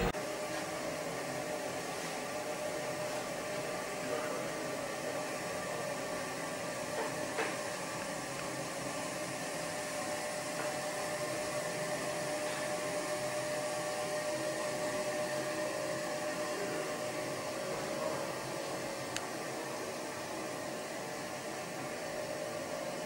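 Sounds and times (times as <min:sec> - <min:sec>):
machinery whirring hum and hiss: 0:00.0 - 0:23.0.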